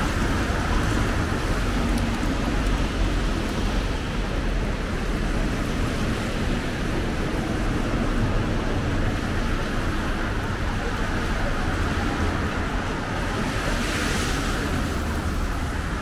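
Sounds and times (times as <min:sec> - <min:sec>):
traffic on wet roads: 0:00.0 - 0:16.0.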